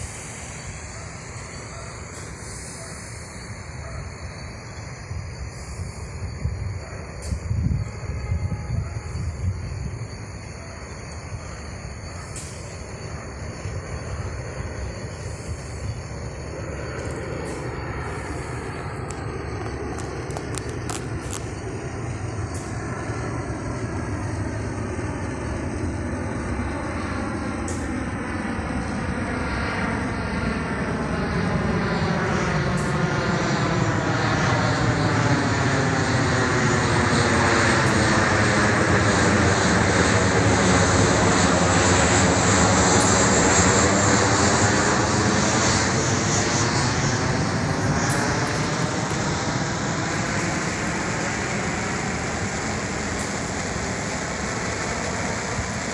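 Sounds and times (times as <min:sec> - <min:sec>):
jet airliner engine noise: 0:00.0 - 0:55.9.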